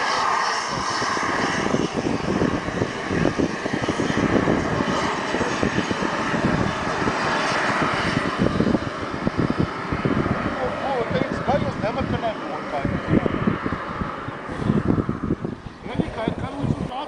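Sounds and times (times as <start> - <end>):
model jet engine whine: 0.0 - 17.0
wind buffeting microphone: 0.0 - 17.0.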